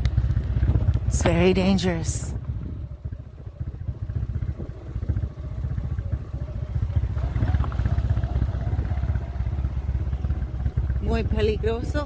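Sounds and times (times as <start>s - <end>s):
motorcycle engine running: 0.0s - 12.0s
wind rumbling on microphone: 0.0s - 12.0s.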